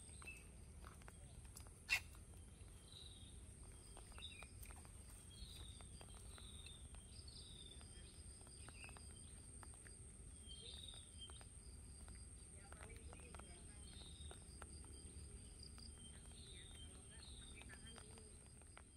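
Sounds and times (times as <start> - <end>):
faint bird chirps: 0.0 - 18.9.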